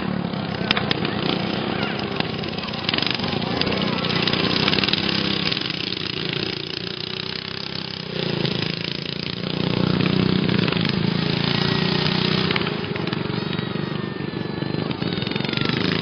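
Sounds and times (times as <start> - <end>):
lawn mower engines revving: 0.0 - 16.0.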